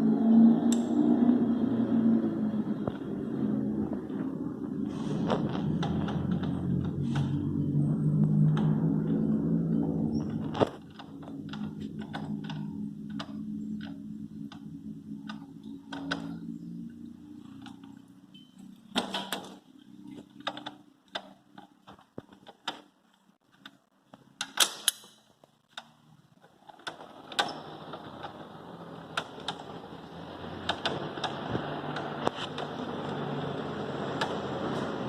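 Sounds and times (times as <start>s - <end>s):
steady background noise: 0.0s - 35.0s.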